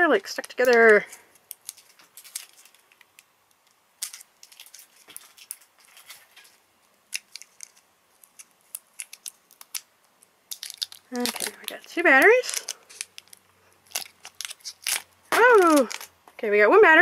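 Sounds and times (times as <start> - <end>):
plastic wrap crinkling: 0.0 - 16.2.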